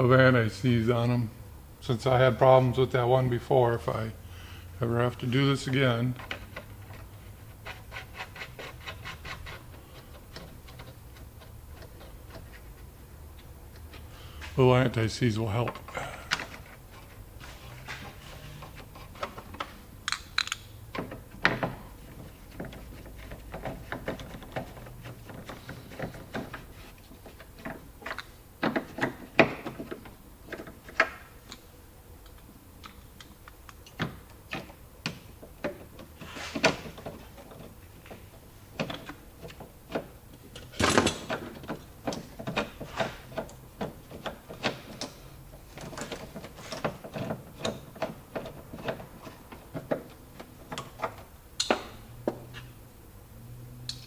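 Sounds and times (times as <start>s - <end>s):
hand tools clicking and knocking: 5.2s - 14.7s, 15.4s - 31.2s, 32.3s - 52.6s.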